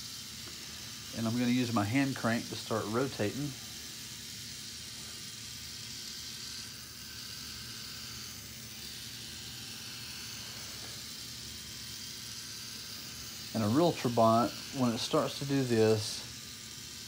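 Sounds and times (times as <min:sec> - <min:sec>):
small motor whirring: 0:00.0 - 0:17.0.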